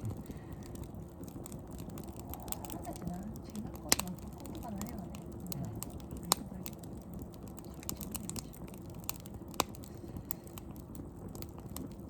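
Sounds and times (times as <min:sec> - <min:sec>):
bonfire crackling and popping: 0:00.0 - 0:12.0.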